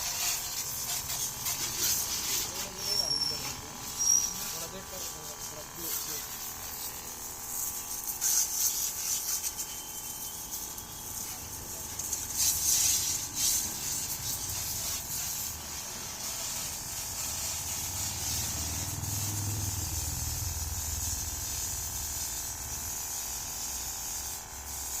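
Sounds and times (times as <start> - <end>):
pressure washer water spraying: 0.0 - 25.0.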